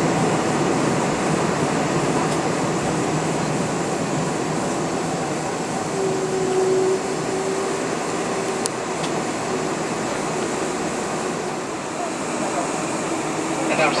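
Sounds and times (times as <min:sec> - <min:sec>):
cabin air and engine rush: 0:00.0 - 0:14.0.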